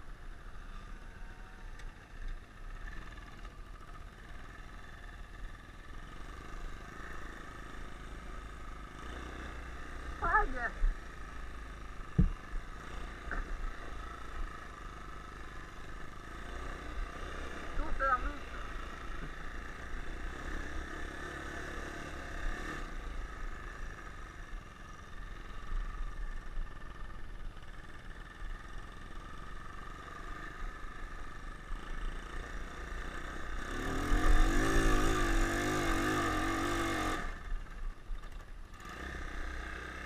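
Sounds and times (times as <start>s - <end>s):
engine running and revving: 0.0s - 40.0s.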